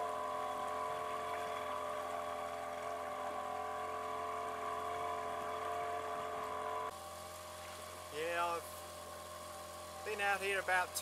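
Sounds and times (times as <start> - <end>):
outboard motor drone: 0.0 - 11.0.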